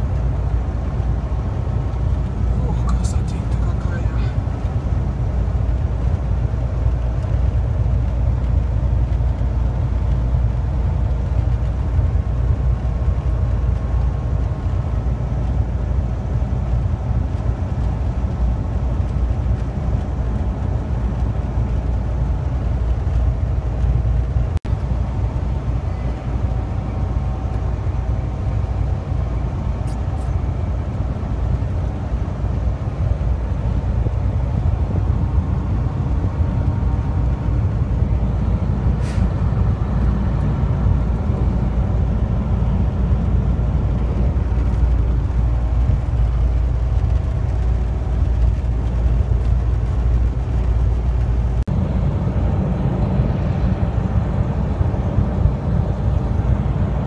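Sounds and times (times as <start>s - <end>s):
truck engine and tyres rumbling: 0.0s - 57.0s.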